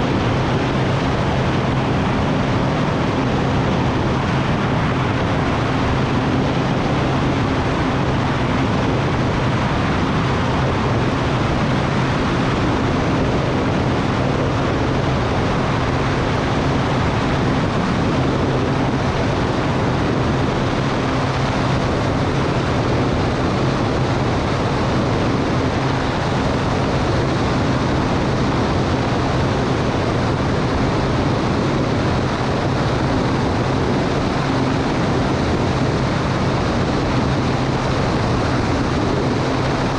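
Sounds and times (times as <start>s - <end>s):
airplane engine and propeller: 0.0s - 39.9s
rush of air noise: 0.0s - 39.9s.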